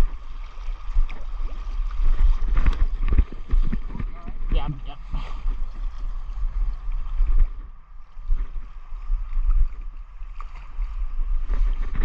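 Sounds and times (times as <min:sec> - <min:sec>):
river water at shoreline: 0:00.0 - 0:12.0
wind rumble on microphone: 0:00.0 - 0:12.0.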